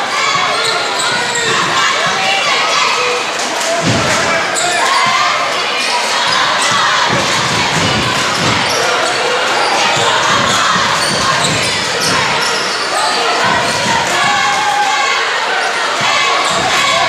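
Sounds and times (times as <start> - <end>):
murmur of crowd voices: 0.0 - 17.0.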